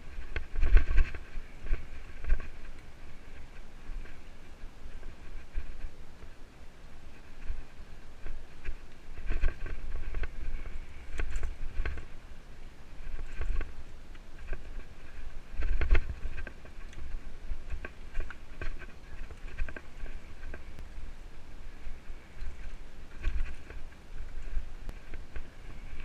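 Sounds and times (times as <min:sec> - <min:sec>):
mountain bike rattling: 0:00.0 - 0:26.0.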